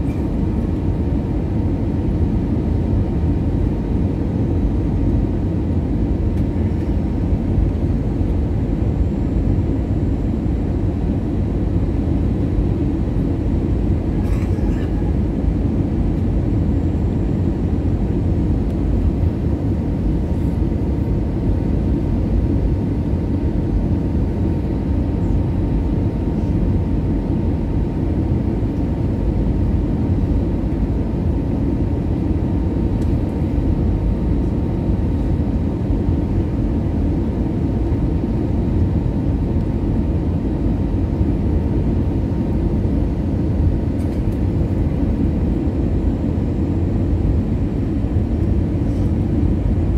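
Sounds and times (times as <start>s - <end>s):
aircraft cabin engine rumble: 0.0s - 49.9s.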